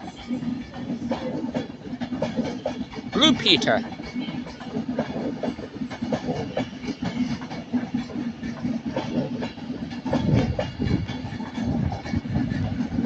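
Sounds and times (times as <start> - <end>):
train wheels clattering over rail joints: 0.0 - 3.2, 3.8 - 13.0.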